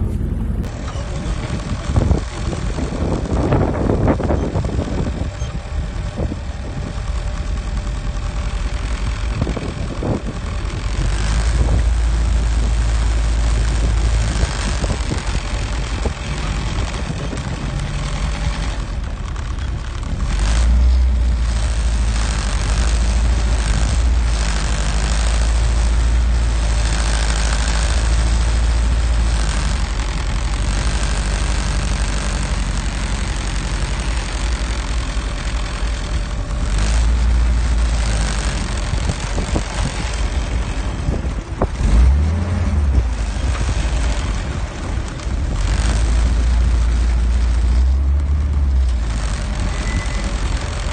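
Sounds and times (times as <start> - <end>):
deep rumble: 0.0 - 50.9
jeep engine running: 0.0 - 50.9.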